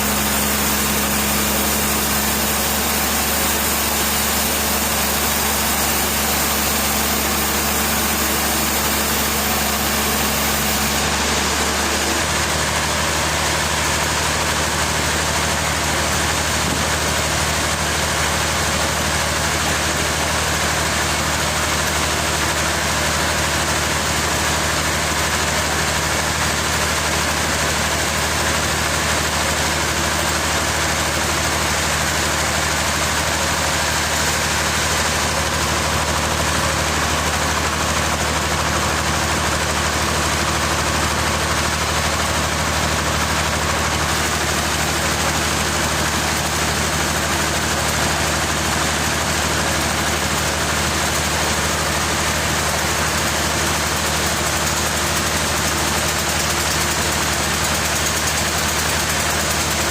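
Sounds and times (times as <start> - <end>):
large engine running steadily: 0.0 - 59.9.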